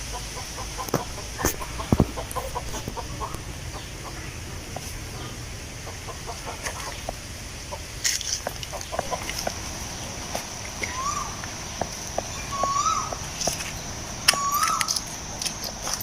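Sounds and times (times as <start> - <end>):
chickens clucking: 0.0 - 16.0
wind rustling leaves: 0.0 - 16.0.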